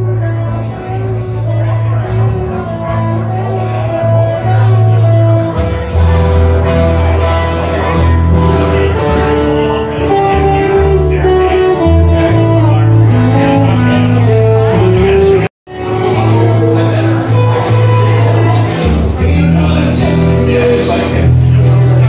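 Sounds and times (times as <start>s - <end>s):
guitar: 0.0s - 22.0s
held bass notes: 0.0s - 22.0s
person singing: 0.0s - 22.0s.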